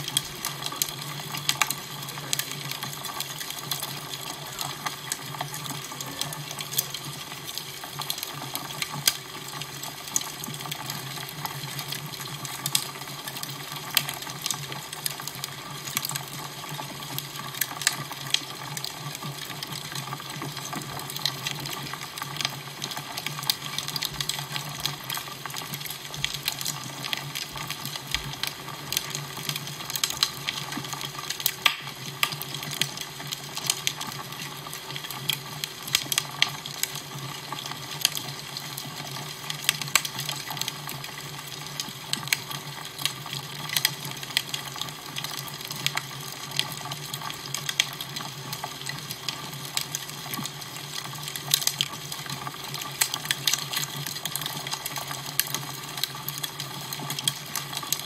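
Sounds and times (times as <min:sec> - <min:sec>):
crackling fire: 0:00.0 - 0:58.0.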